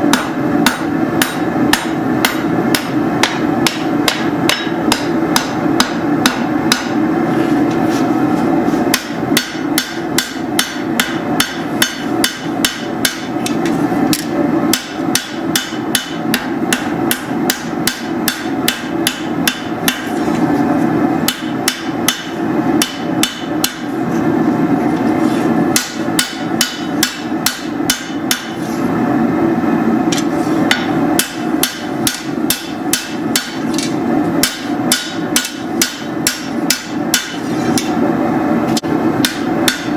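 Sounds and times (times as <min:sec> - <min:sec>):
hammer striking hot steel on anvil: 0:00.0 - 0:07.8, 0:08.9 - 0:20.2, 0:21.0 - 0:28.6, 0:30.0 - 0:39.9
steady hum: 0:00.0 - 0:39.9.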